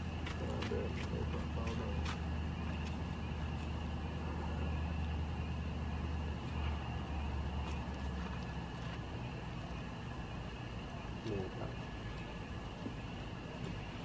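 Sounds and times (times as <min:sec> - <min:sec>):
campfire crackles: 0:00.0 - 0:14.0
low engine-like hum: 0:00.0 - 0:14.0.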